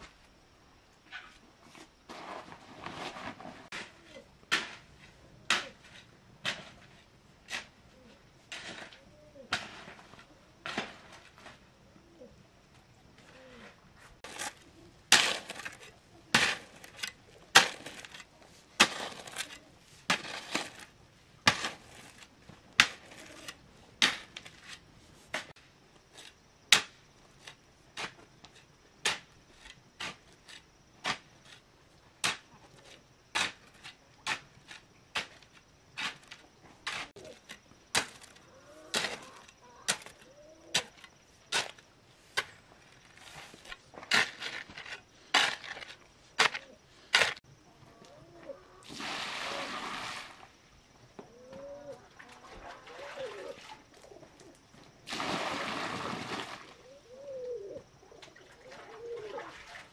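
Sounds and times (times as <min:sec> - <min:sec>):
hoe scraping and chopping gravel: 0:01.1 - 0:11.7, 0:13.2 - 0:47.5, 0:48.9 - 0:50.6, 0:53.2 - 0:56.7.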